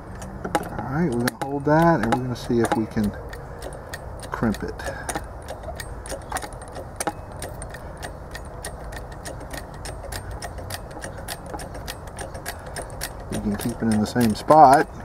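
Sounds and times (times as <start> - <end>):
hydraulic jack metallic clicks: 0.0 - 15.0.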